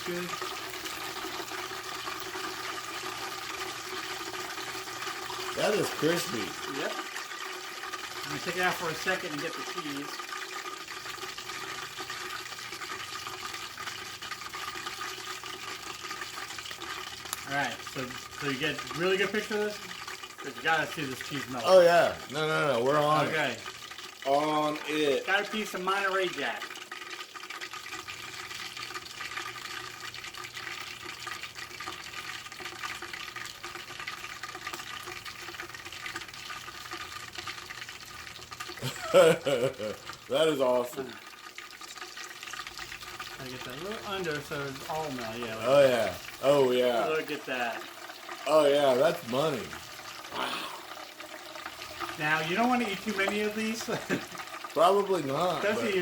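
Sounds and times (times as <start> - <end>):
oil bubbling in deep fryer: 0.0 - 56.0.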